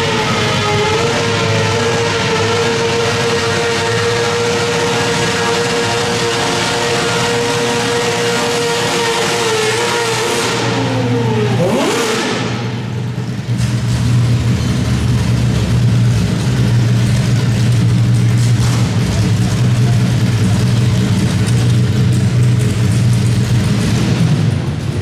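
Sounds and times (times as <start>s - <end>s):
tractor engine revving: 0.0s - 25.0s.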